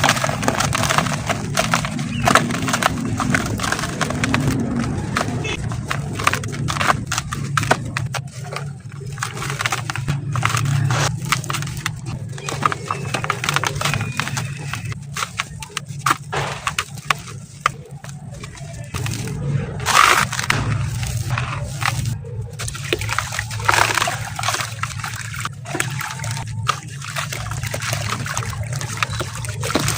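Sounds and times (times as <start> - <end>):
cement lumps crumbled by hand: 0.0 - 29.9.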